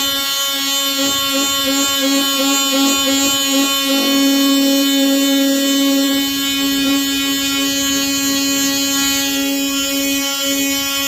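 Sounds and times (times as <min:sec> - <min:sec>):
multi-tool sanding wood buzzing: 0:00.0 - 0:11.0.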